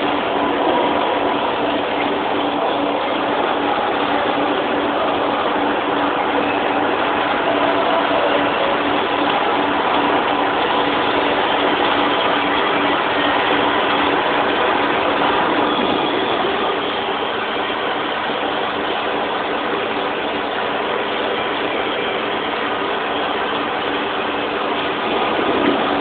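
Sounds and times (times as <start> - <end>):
lathe machining whir: 0.0 - 26.0.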